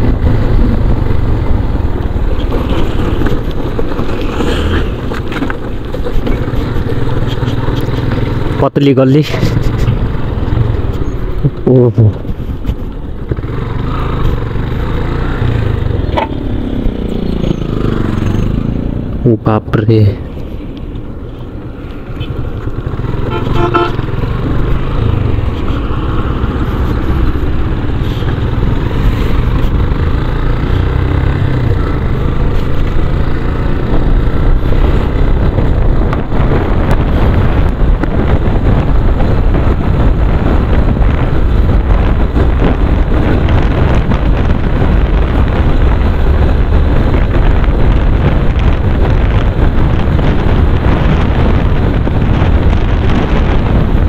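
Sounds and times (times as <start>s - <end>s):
motorcycle engine running: 0.0s - 19.3s, 20.2s - 54.0s
wind rushing over microphone: 0.0s - 54.0s.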